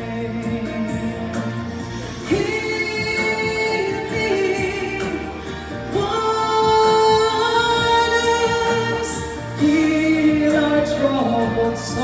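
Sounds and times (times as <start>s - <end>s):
accompanying music: 0.0s - 12.0s
woman singing gospel song: 0.0s - 12.0s.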